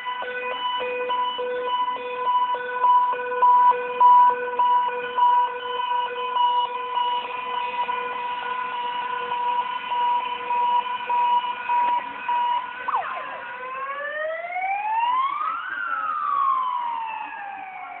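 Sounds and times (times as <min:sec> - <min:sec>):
fire engine siren: 0:00.0 - 0:18.0.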